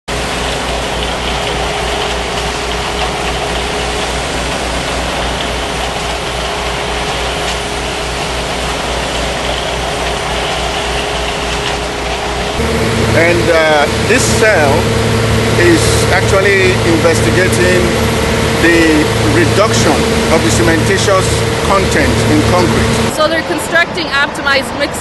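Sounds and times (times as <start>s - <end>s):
heavy machinery engine running: 0.1s - 25.0s.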